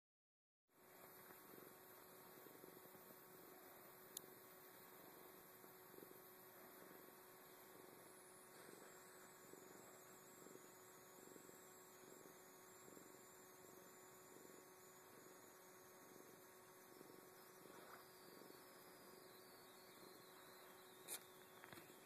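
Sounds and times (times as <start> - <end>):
cat purring: 0.8 - 22.0
electrical hum: 0.8 - 22.0.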